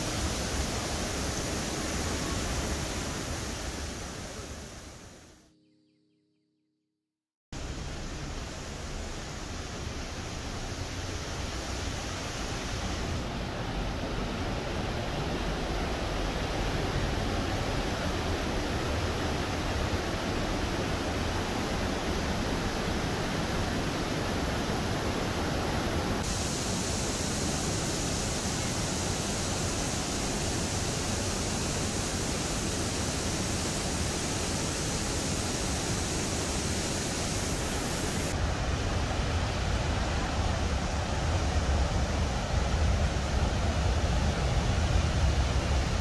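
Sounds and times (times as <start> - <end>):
waterfall rushing over rocks: 0.0 - 5.0, 7.6 - 46.0.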